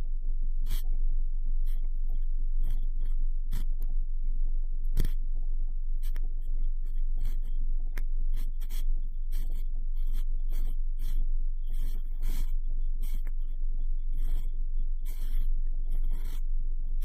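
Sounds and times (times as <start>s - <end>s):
steady low rumble: 0.0s - 17.0s
cotton swab scratching microphone: 1.6s - 3.9s, 4.9s - 5.2s, 6.0s - 17.0s.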